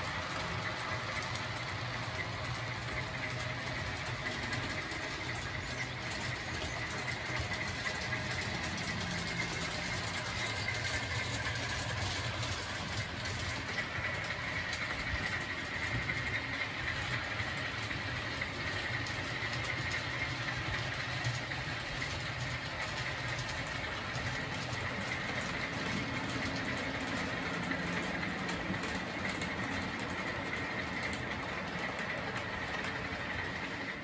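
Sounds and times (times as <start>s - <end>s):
deep hum of passing train: 0.0s - 34.0s
model train motors whirring: 0.0s - 34.0s
wheels rolling on track: 0.0s - 34.0s.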